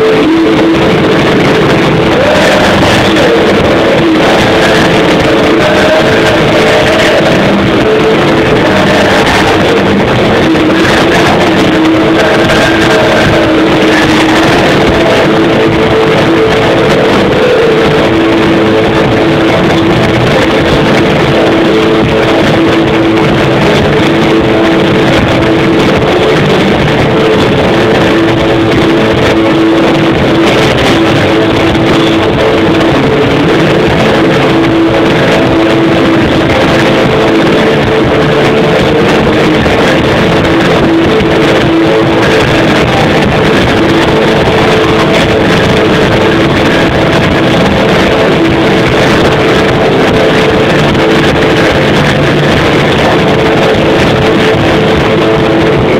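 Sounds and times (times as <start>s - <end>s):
distorted live rock band: 0.0s - 55.9s.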